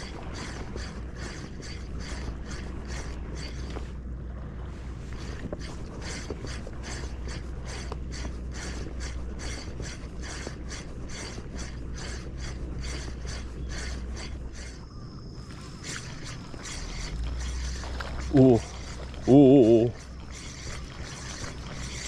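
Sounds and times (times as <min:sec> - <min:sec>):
fishing reel gears whirring: 0:00.0 - 0:22.0
wind on microphone: 0:00.0 - 0:22.0.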